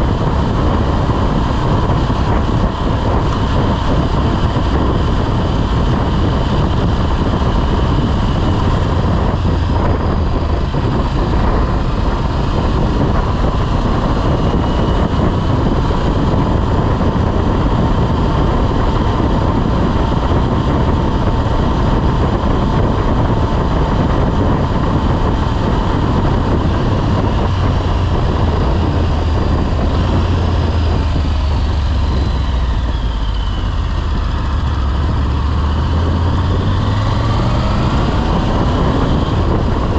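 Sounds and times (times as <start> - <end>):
motorcycle engine running: 0.0 - 39.9
steady whine: 0.0 - 39.9
wind rush on microphone: 0.0 - 39.9.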